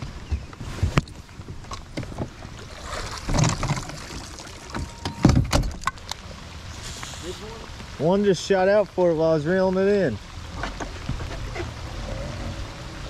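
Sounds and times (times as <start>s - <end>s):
rain: 0.0s - 13.0s.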